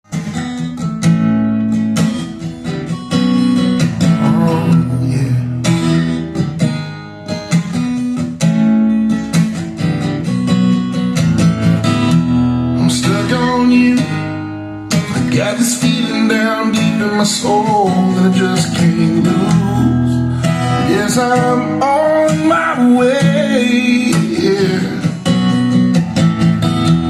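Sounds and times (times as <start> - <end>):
acoustic guitar strumming chords: 0.1 - 27.0.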